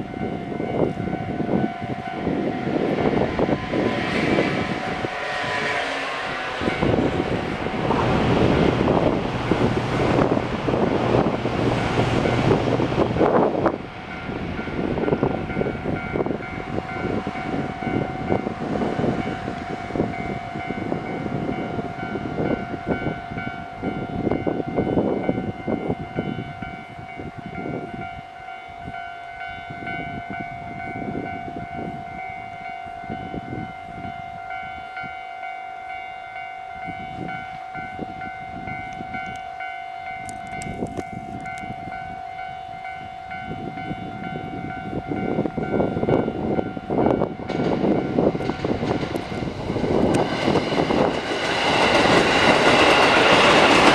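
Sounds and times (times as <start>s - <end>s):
train rumbling and clattering: 0.0s - 35.2s, 35.9s - 53.9s
level-crossing warning bell: 0.0s - 53.9s.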